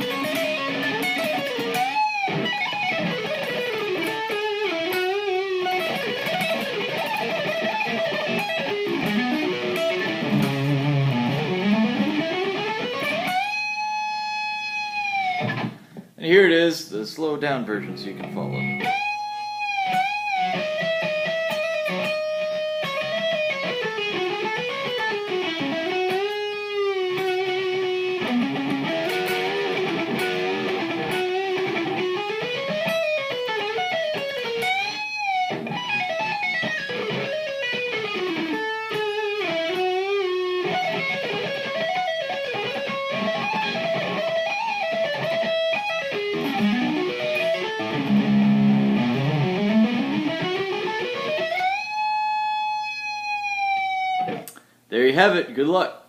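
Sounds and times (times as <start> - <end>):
electric guitar solo: 0.0 - 16.1, 17.8 - 54.8.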